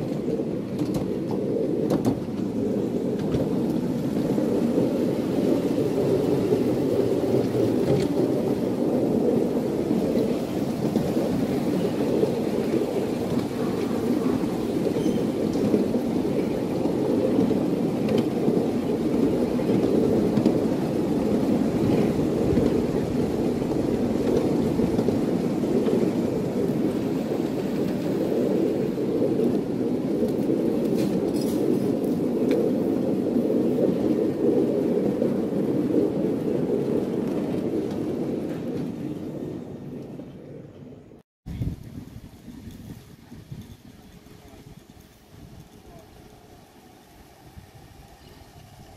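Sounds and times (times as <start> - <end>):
train wheels rumbling on track: 0.0 - 48.9
wind on microphone: 0.0 - 48.9.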